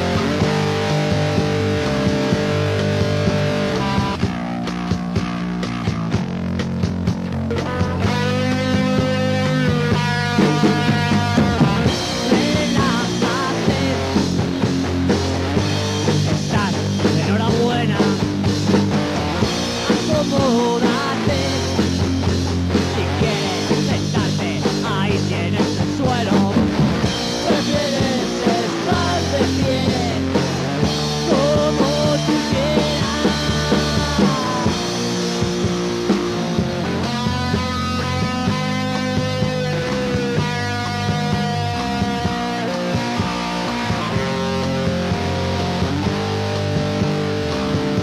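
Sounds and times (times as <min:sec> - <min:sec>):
punk rock band playing: 0:00.0 - 0:48.0.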